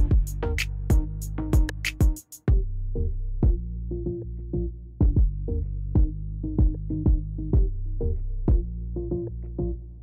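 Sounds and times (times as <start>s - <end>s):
hip-hop music with drum-machine beat: 0.0s - 2.7s, 3.4s - 7.9s, 8.5s - 9.7s.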